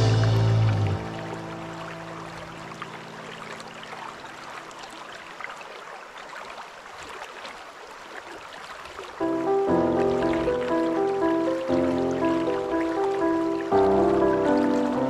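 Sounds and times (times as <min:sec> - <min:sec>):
river water flowing: 0:00.0 - 0:15.0
small trickling splashes: 0:00.0 - 0:15.0.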